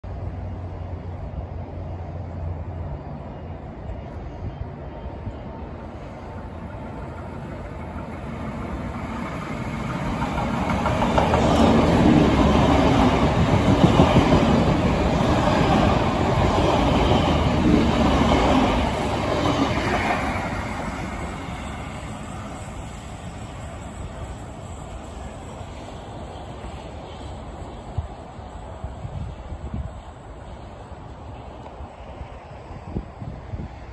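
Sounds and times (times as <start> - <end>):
diesel train passing: 0.0 - 33.9.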